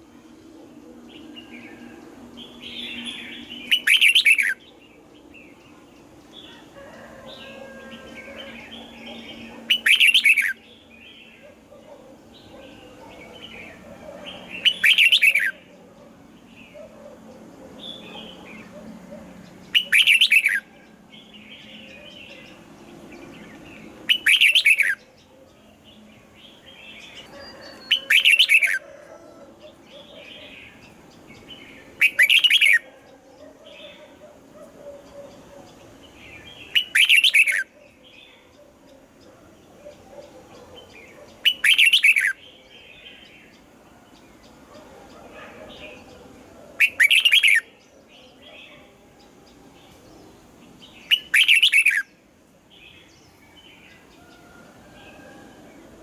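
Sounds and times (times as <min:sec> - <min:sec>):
bulbul singing: 0:00.0 - 0:06.6, 0:07.4 - 0:28.8, 0:29.6 - 0:52.2.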